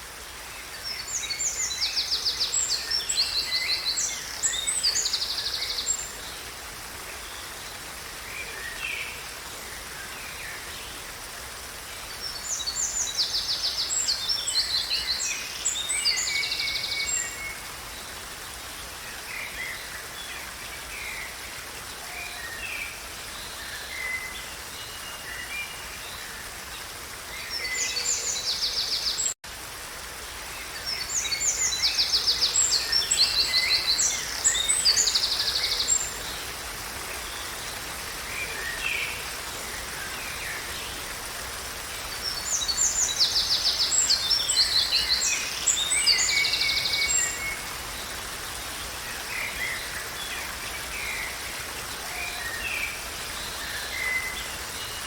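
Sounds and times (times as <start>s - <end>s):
songbirds singing: 0.0s - 29.4s, 30.5s - 55.0s
steady background hiss: 0.0s - 55.0s.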